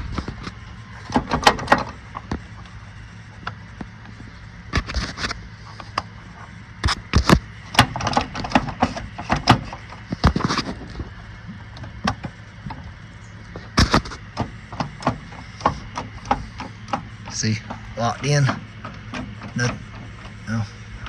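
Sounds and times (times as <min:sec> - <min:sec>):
tractor engine humming: 0:00.0 - 0:21.0.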